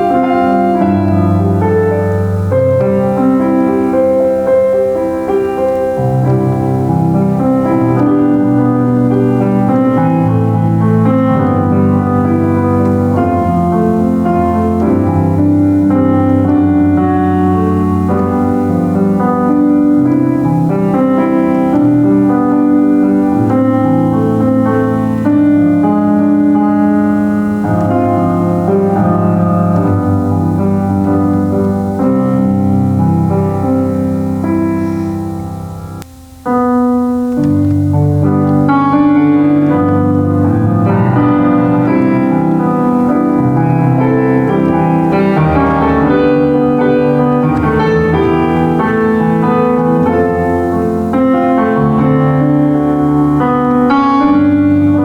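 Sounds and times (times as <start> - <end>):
solo piano hymn: 0.0 - 55.0.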